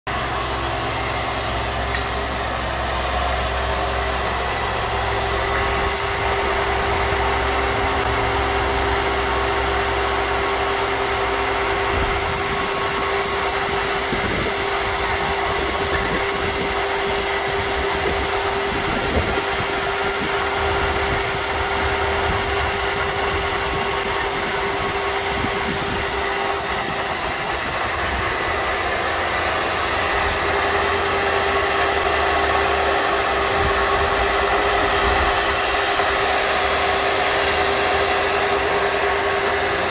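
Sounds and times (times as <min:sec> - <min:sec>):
milling machine motor hum: 0:00.1 - 0:39.9
small motor whining: 0:00.3 - 0:39.9.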